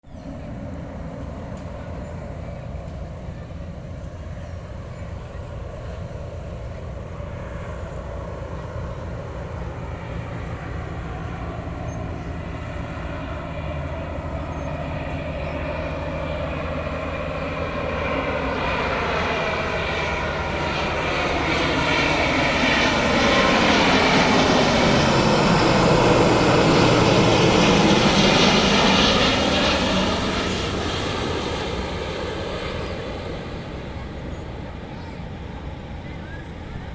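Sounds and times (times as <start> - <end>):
airliner jet engines on approach: 0.0 - 36.9.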